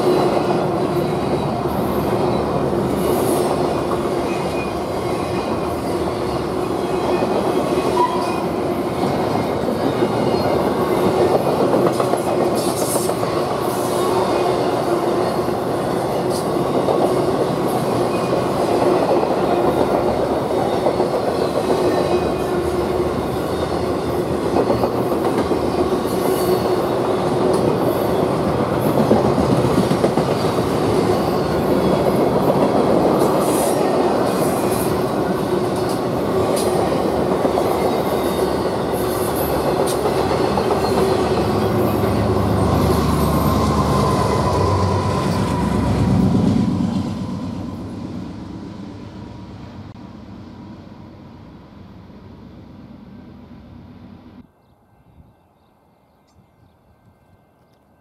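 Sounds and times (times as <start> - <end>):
train wheel squeal: 0.0 - 29.2, 29.8 - 48.1
freight train rumbling and rattling: 0.0 - 54.5.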